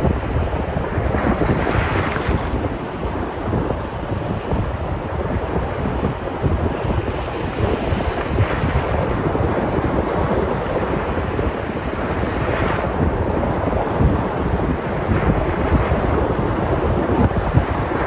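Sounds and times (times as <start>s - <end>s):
sea surf washing onto shore: 0.0s - 18.0s
wind rumble on microphone: 0.0s - 18.0s.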